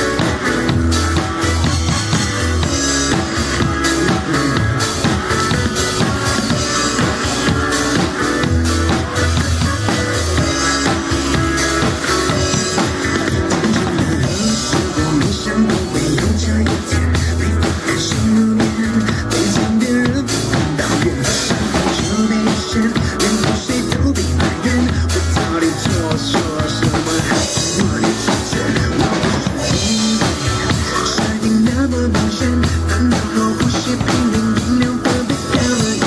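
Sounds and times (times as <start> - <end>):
bass guitar: 0.0 - 36.0
drum kit: 0.0 - 36.0
electric guitar: 0.0 - 36.0.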